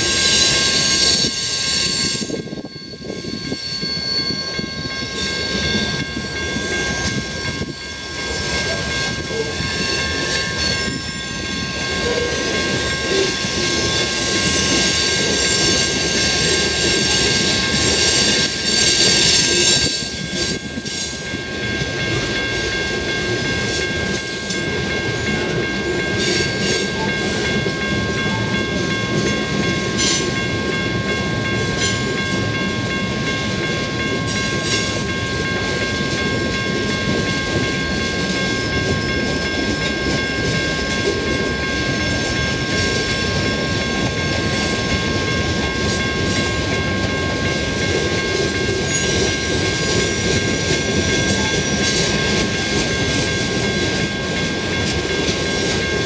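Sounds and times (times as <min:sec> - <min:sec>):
freight cars rolling on rails: 0:00.0 - 0:56.0.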